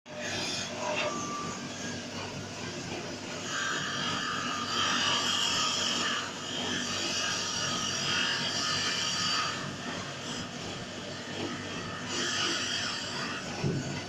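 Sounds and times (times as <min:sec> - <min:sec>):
lathe cutter shaving wood: 0:00.1 - 0:14.0
lathe motor running: 0:00.1 - 0:14.0.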